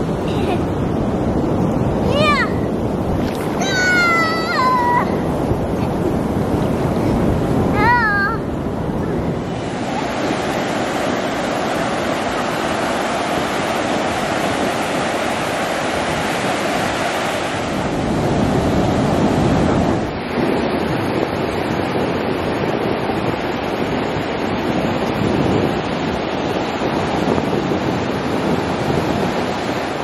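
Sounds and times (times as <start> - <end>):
ocean surf breaking on beach: 0.0 - 30.0
wind buffeting microphone: 0.0 - 30.0.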